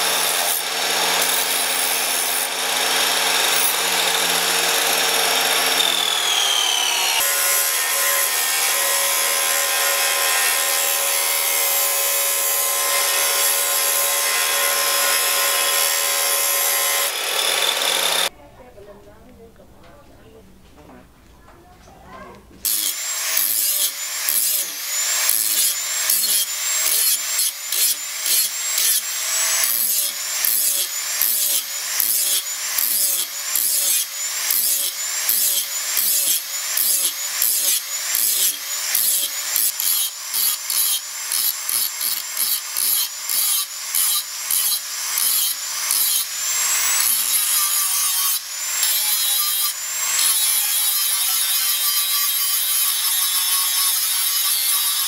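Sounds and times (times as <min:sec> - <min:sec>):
angle grinder grinding steel: 0:00.0 - 0:18.3, 0:22.6 - 0:55.0.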